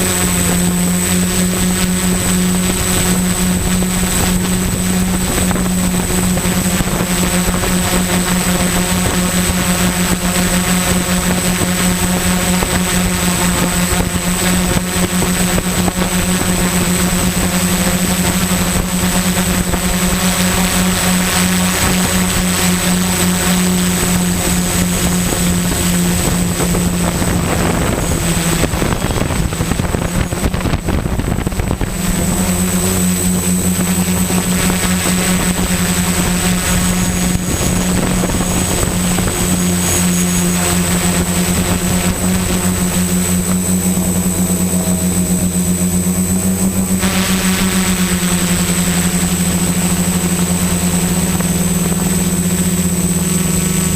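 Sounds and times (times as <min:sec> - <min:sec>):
quadcopter motors and propellers: 0:00.0 - 0:53.9.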